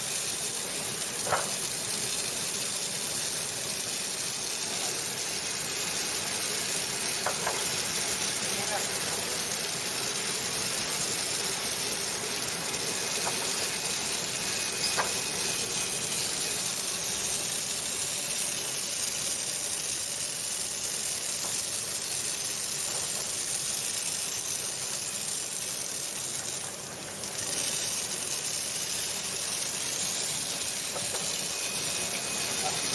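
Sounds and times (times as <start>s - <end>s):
washing machine hissing water and air: 0.0s - 32.9s.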